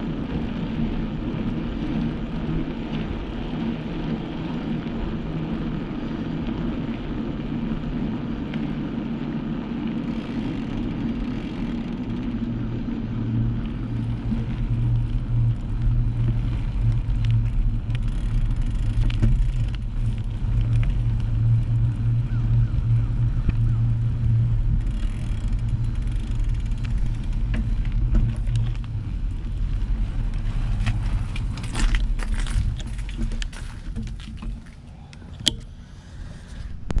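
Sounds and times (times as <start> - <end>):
vehicle rumble with road noise: 0.0 - 37.0.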